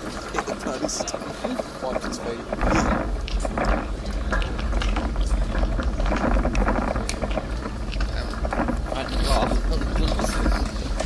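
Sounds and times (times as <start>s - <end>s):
irregular crackling: 0.0s - 11.0s
wind rumbling on microphone: 0.0s - 11.0s.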